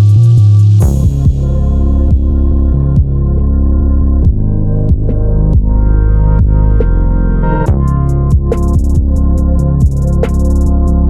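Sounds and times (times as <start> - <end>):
drum machine beat with hi-hat: 0.0 - 3.4, 4.2 - 5.8, 6.4 - 7.0, 7.6 - 11.0
electronic music with heavy bass: 0.0 - 11.0.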